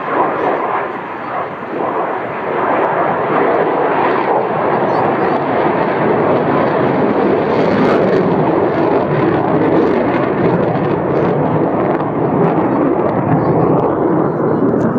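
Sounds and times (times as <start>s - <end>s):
jet engine rushing overhead: 0.0s - 14.9s.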